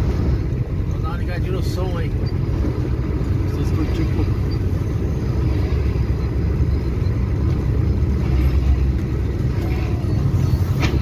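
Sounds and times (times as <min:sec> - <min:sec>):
diesel truck engine rumble: 0:00.0 - 0:11.0
road noise: 0:00.0 - 0:11.0.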